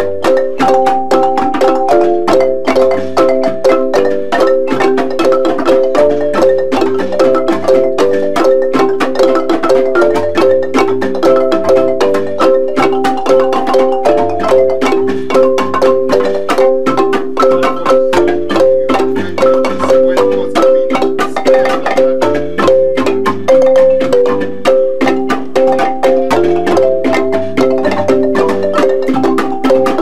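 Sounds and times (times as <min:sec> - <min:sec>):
wooden marimbas playing: 0:00.0 - 0:30.0.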